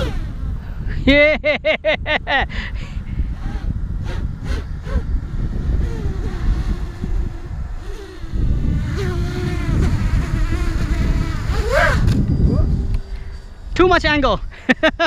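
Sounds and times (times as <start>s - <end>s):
drone motors whining: 0.0s - 1.3s, 2.6s - 15.0s
wind noise on microphone: 0.0s - 15.0s.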